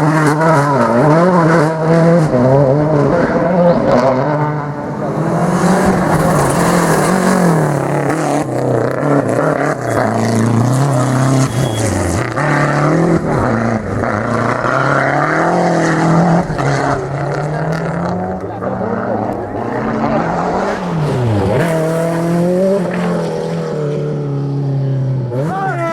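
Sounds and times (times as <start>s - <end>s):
rally car engine revving: 0.0s - 25.9s.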